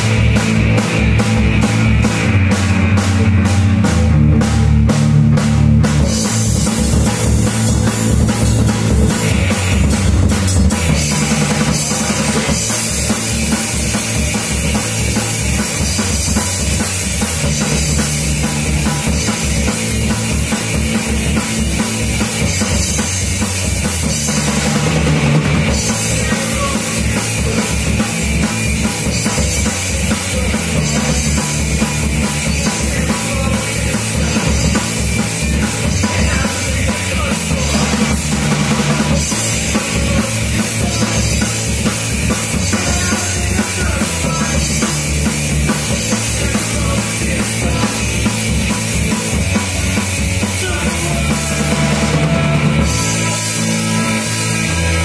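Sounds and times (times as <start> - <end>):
bass guitar: 0.0 - 55.0
drum kit fast beat: 0.0 - 55.0
electric guitar: 0.0 - 55.0.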